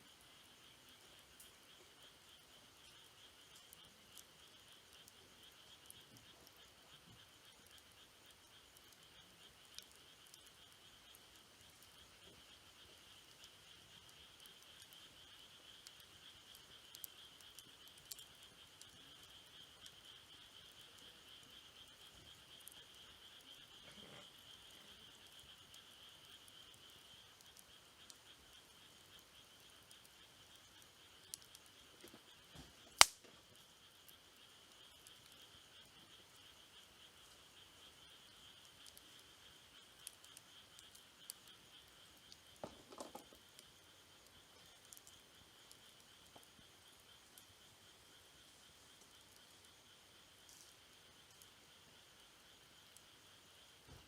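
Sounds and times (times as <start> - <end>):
crickets trilling: 0.0 - 54.0
campfire crackling and popping: 0.1 - 54.0.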